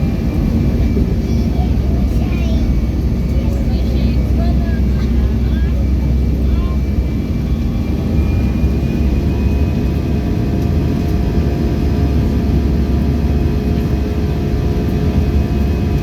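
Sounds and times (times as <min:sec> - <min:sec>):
engine whining tones: 0:00.0 - 0:16.0
jet engine cabin rumble: 0:00.0 - 0:16.0.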